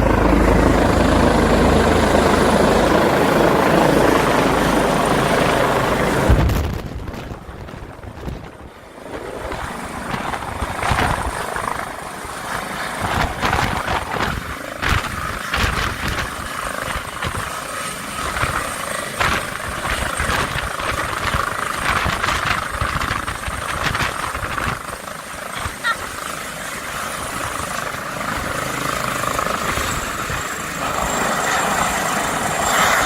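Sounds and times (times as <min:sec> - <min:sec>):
helicopter rotor and turbine: 0:00.0 - 0:33.0.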